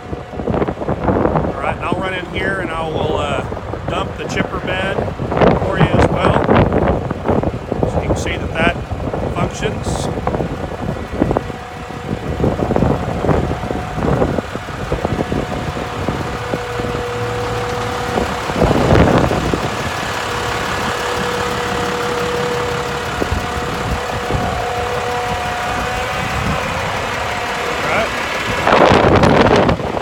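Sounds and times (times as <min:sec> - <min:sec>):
diesel truck engine running: 0:00.0 - 0:30.0
hydraulic whine: 0:00.0 - 0:30.0
wind buffeting microphone: 0:00.0 - 0:30.0.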